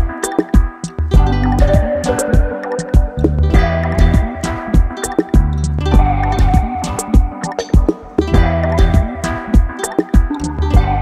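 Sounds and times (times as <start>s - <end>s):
guitar-led music with drums: 0.0s - 11.0s.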